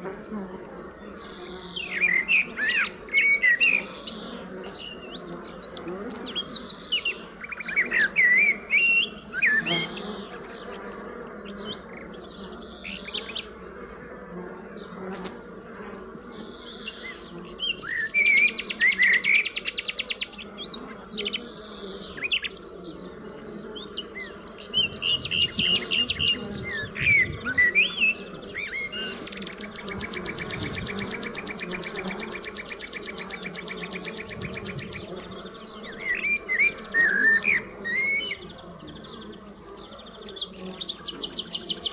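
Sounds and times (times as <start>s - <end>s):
honeybees humming: 0.0s - 41.9s
songbirds chirping and trilling: 0.0s - 41.9s.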